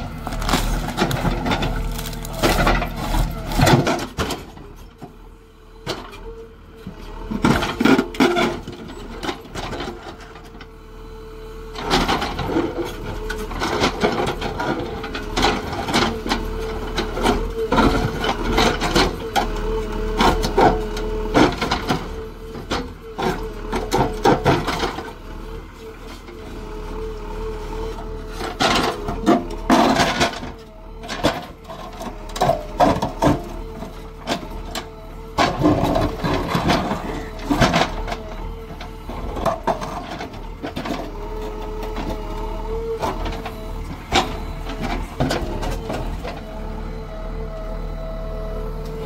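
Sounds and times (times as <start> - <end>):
backhoe loader whine: 0.0 - 49.0.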